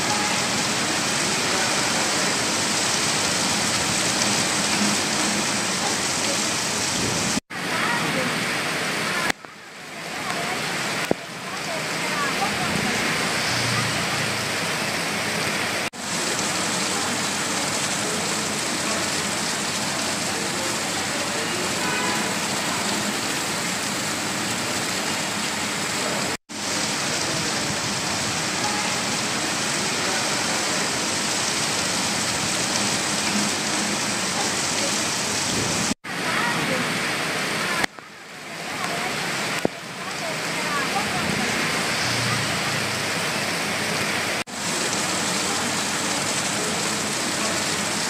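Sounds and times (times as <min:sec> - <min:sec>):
heavy rain on road and rooftops: 0:00.0 - 0:48.0.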